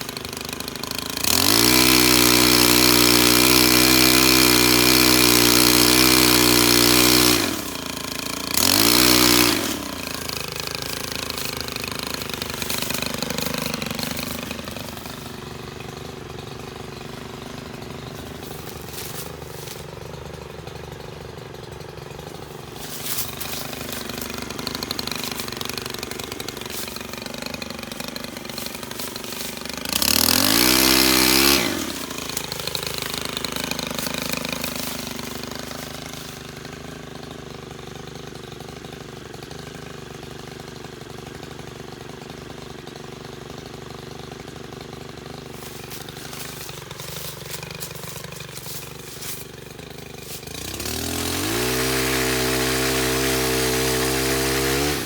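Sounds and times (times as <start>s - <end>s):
small petrol engine revving: 0.0s - 55.0s.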